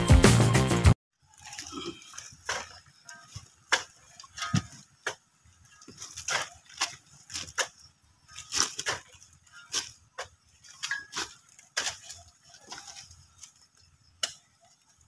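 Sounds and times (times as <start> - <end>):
shovel scraping stony soil: 1.4 - 14.8.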